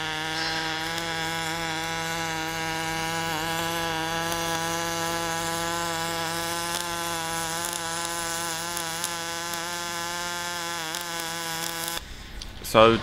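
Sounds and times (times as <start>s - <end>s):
welding arc buzzing hum: 0.0s - 13.0s.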